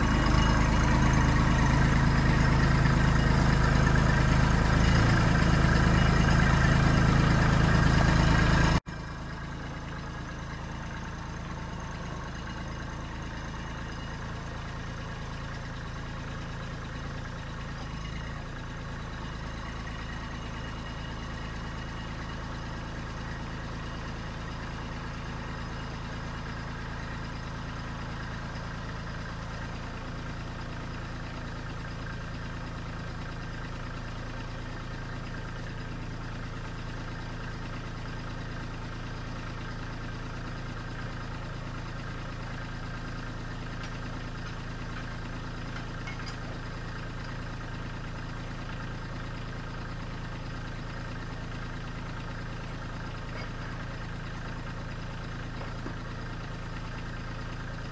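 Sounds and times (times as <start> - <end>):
diesel machinery idling: 0.0 - 57.9.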